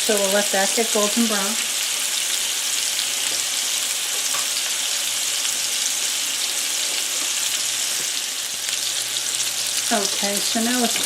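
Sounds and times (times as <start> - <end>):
meat patties sizzling in a pan: 0.0 - 11.0.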